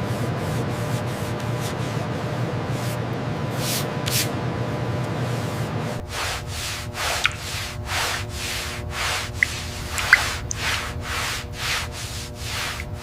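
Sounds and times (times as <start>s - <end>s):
hand sanding strokes: 0.0s - 4.3s, 5.3s - 13.0s.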